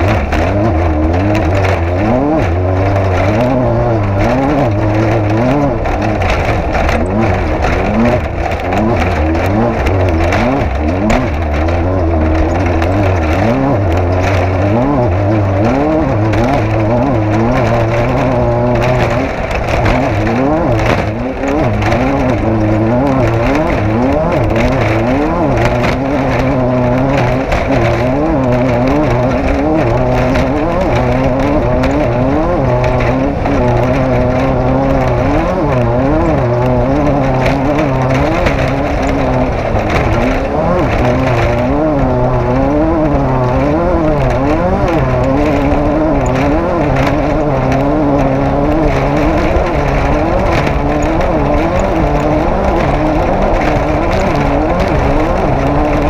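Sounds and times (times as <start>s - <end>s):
knocks and rattles: 0.0s - 56.0s
race vehicle engine revving: 0.0s - 56.0s.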